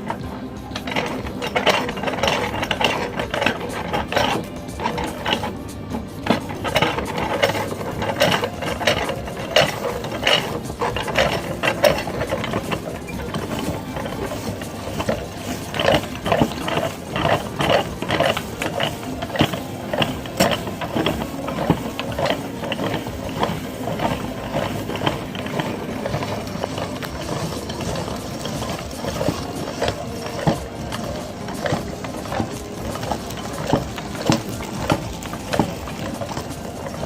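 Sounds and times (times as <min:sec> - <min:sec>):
meat grinder grinding: 0:00.0 - 0:37.0.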